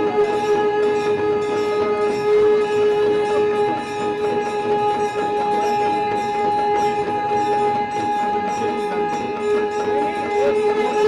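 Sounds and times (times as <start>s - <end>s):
conch shell blown: 0.0s - 11.0s.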